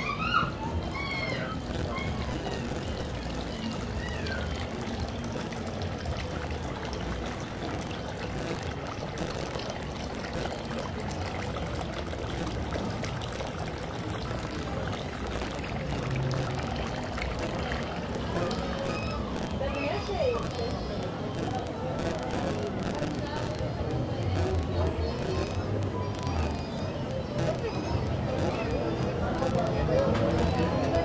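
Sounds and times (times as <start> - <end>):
outdoor street ambience: 0.0 - 31.0.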